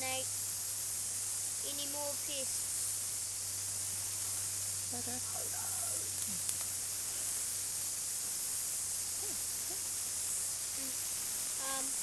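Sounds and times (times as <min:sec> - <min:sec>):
faint low hum: 0:00.0 - 0:12.0
high-pitched hiss: 0:00.0 - 0:12.0.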